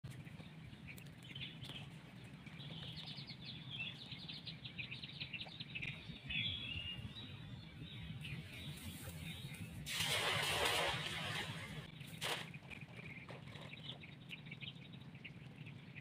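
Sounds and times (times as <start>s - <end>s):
birds chirping: 0.0s - 16.0s
steady low hum: 0.1s - 16.0s.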